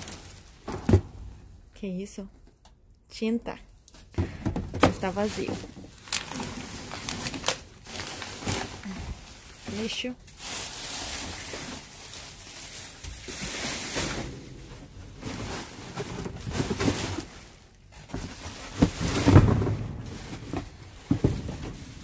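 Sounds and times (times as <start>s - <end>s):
boxes and trash bags rustling: 0.0s - 1.7s, 3.8s - 22.0s.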